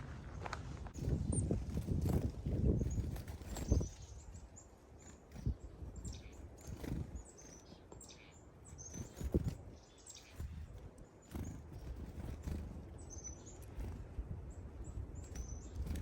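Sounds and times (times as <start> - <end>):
small songbirds chirping: 0.4 - 16.0.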